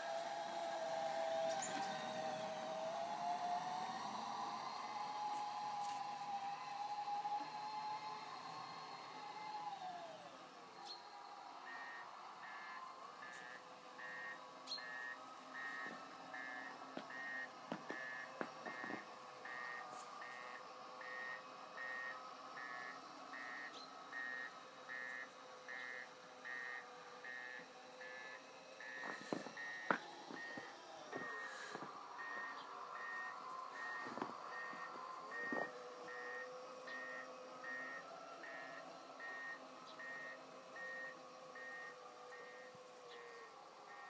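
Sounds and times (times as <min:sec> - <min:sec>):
falling whine of drive: 0:00.0 - 0:44.0
model drive humming: 0:00.0 - 0:44.0
reversing warning beeper: 0:00.2 - 0:44.0.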